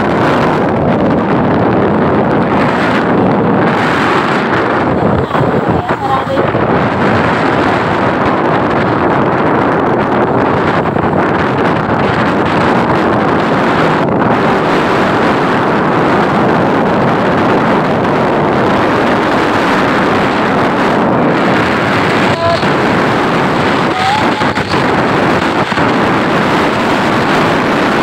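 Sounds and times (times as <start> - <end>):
motorcycle engine and road noise: 0.0 - 28.0
wind buffeting microphone: 0.0 - 28.0.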